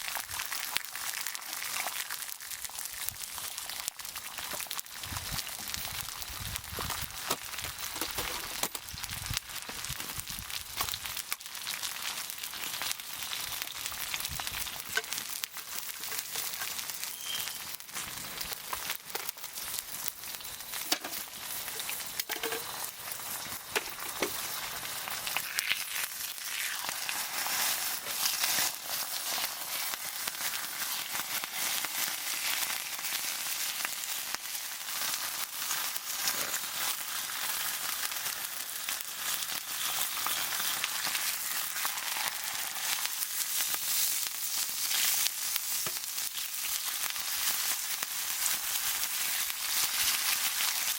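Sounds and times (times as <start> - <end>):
campfire crackling and hissing: 0.0 - 50.9.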